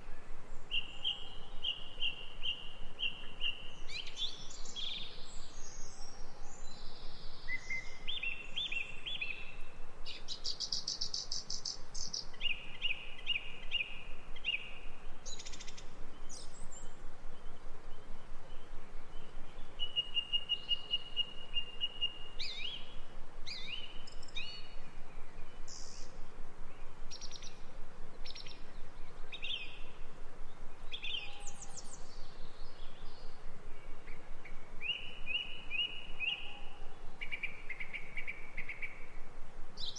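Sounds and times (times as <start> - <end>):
faint steady hiss: 0.0 - 39.9
songbirds singing and trilling: 0.0 - 39.9.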